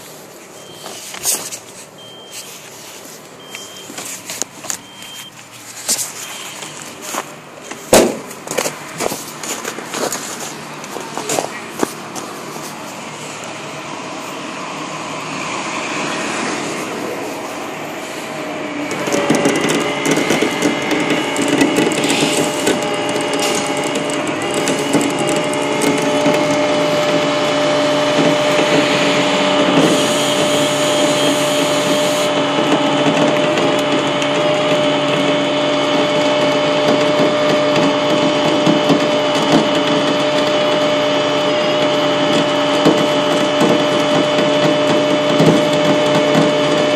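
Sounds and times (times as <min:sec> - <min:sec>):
tow truck machinery droning whine: 0:00.0 - 0:46.9.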